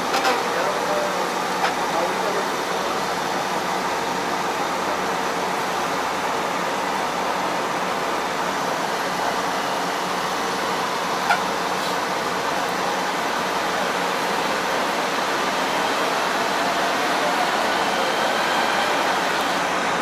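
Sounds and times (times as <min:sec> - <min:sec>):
tram cab rushing noise: 0:00.0 - 0:20.0.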